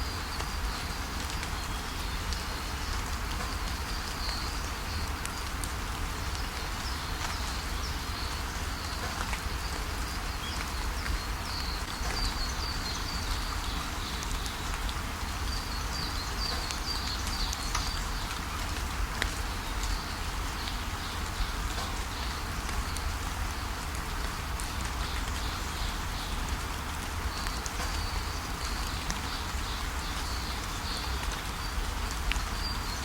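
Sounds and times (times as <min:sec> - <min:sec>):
rain pattering: 0:00.0 - 0:33.0.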